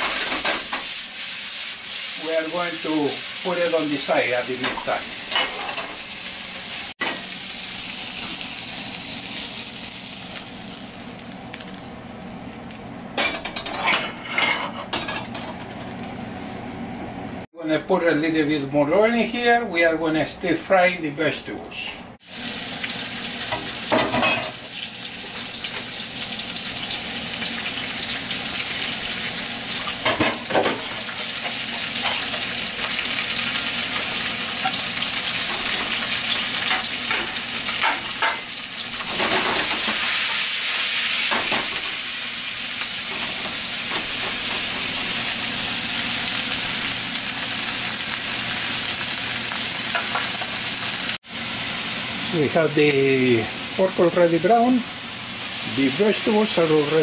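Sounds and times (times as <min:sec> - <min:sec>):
vegetables sizzling in oil: 0:00.0 - 0:12.8, 0:22.2 - 0:57.0.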